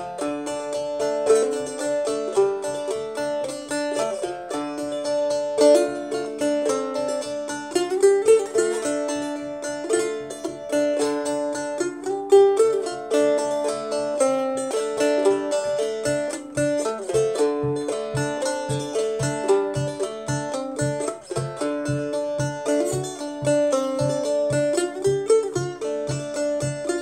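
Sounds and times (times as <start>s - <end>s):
banjo picking single notes: 0.0s - 27.0s.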